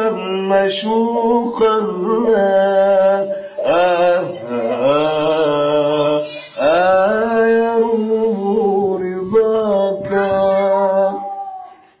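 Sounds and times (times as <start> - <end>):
man singing unaccompanied: 0.0 - 11.8.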